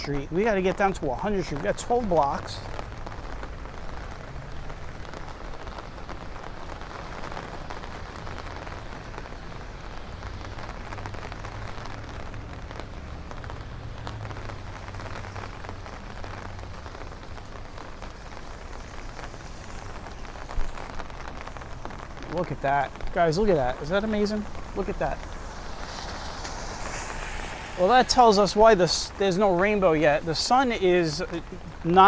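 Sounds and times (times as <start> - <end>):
rain falling on street: 0.0 - 32.0.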